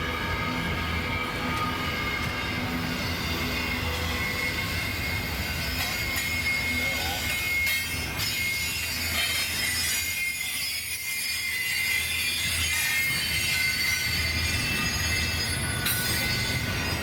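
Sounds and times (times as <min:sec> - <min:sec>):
train rumbling: 0:00.0 - 0:17.0
train wheels squealing: 0:00.0 - 0:17.0.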